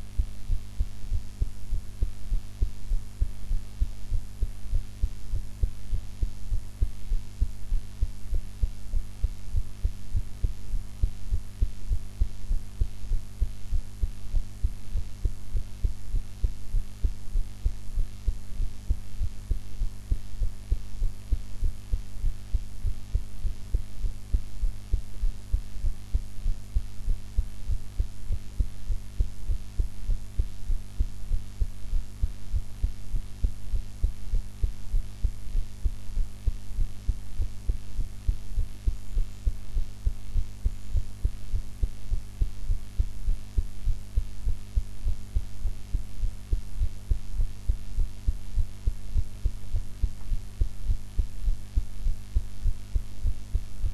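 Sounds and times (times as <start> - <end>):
constant low hum: 0.0 - 53.9
heart beating: 0.0 - 53.9.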